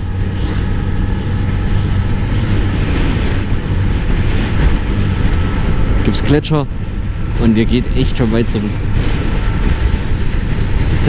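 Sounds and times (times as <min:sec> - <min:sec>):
motorcycle engine cruising: 0:00.0 - 0:11.0
wind noise on microphone: 0:00.0 - 0:11.0.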